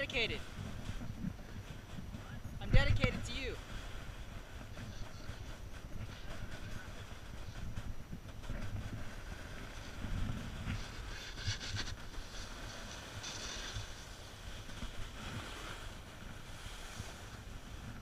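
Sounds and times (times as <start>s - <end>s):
skis scraping over snow: 0.0s - 18.0s
wind on microphone: 0.0s - 18.0s.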